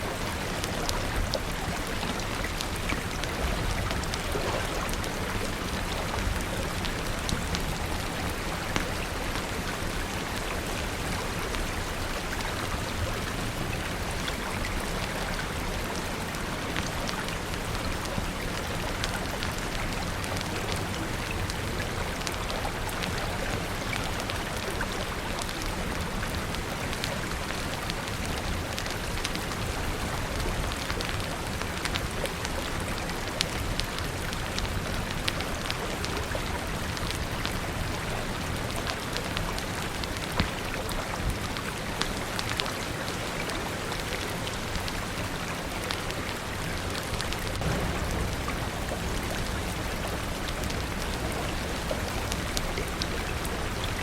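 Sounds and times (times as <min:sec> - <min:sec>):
raindrops ticking on a surface: 0:00.0 - 0:54.0
steady rain falling: 0:00.0 - 0:54.0.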